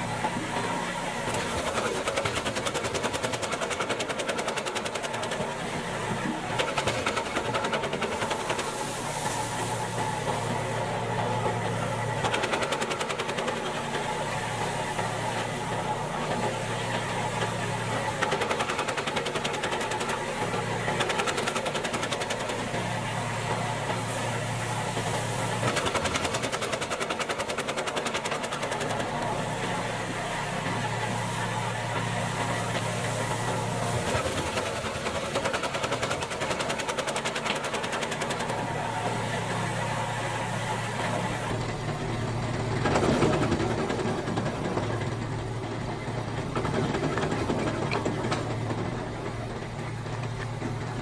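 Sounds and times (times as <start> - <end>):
wood chipper clattering: 0.0 - 51.0
wood chipper engine running: 0.0 - 51.0.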